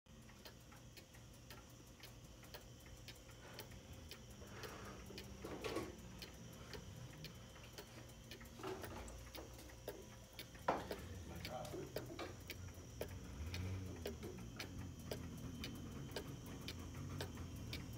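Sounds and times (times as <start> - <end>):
clock ticking: 0.1 - 17.9.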